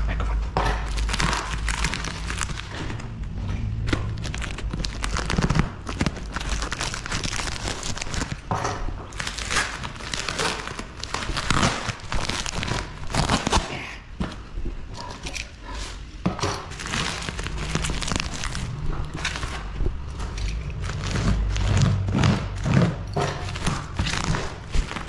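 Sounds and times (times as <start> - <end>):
plastic film crinkling and tearing: 0.8 - 14.0, 16.6 - 25.0.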